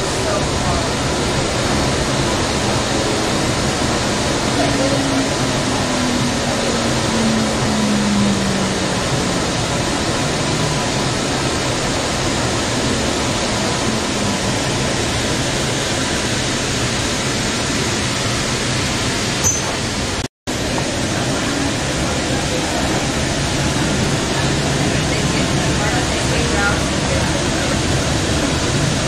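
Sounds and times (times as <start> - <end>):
light rail wheels rumbling on rail: 0.0 - 29.0.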